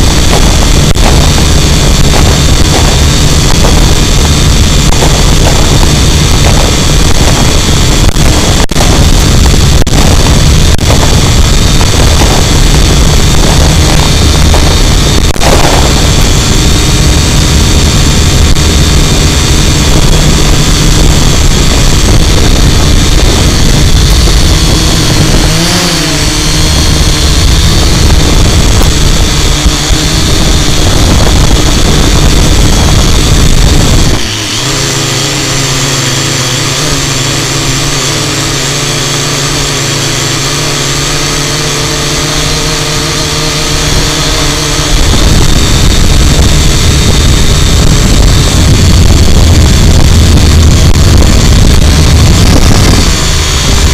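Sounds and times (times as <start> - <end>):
drone motors humming: 0.0 - 53.9.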